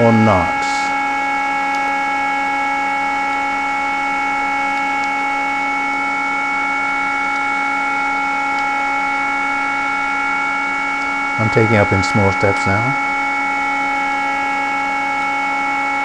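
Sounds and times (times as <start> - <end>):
cooling fan whirring: 0.0 - 16.0.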